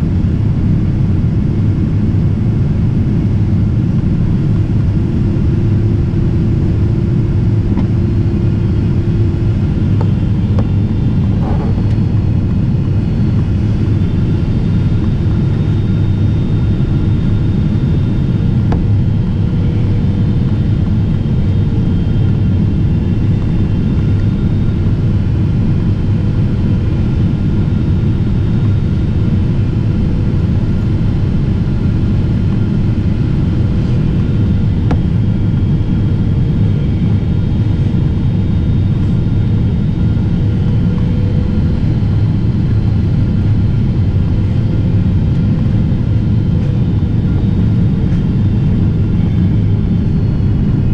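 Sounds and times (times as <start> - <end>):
airplane cabin rumble: 0.0 - 50.9.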